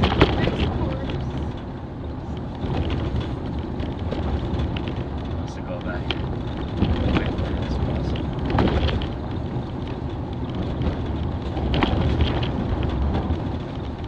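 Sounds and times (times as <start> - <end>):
tyres rumbling on gravel: 0.0 - 14.0.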